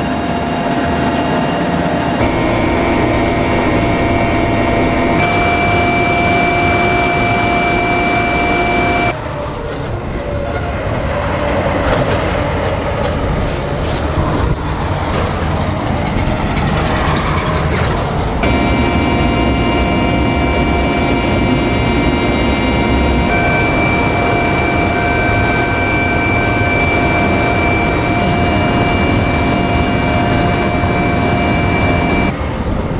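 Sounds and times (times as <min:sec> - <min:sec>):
heavy engine whining and rumbling: 0:00.0 - 0:32.9.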